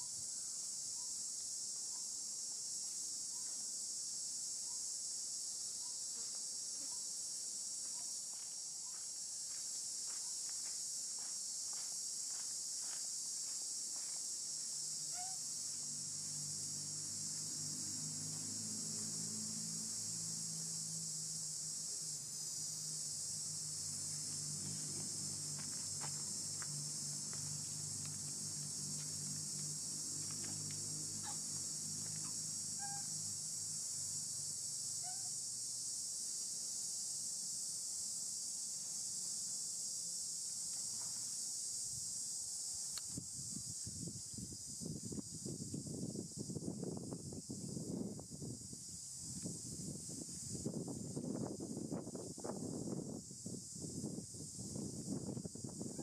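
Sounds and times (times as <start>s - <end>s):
insect chorus buzzing: 0.0s - 56.0s.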